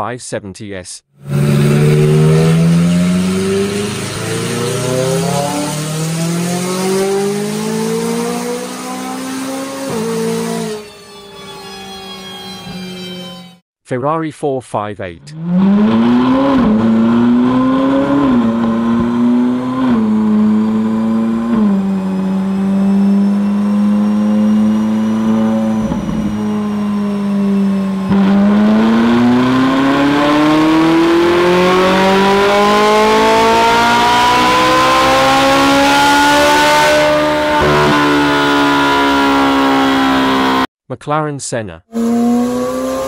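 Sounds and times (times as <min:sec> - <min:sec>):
car engine revving on a dyno: 0:01.2 - 0:13.2, 0:15.3 - 0:40.7, 0:41.9 - 0:43.0.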